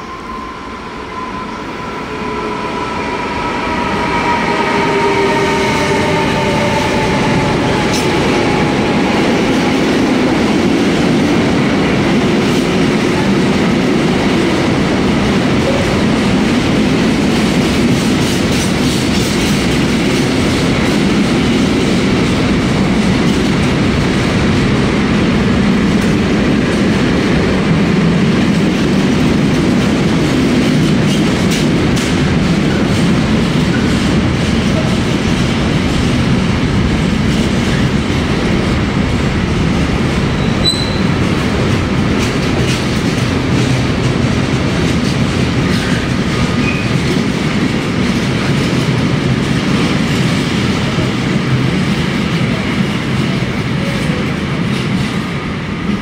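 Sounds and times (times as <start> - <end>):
electric locomotive whine: 0.0 - 56.0
train wagons rumbling: 0.0 - 56.0.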